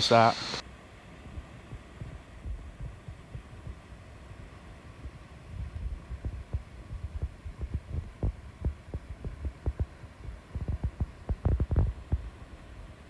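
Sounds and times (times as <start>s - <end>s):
faint steady rush: 0.0s - 13.0s
low thumps on microphone: 1.3s - 12.5s.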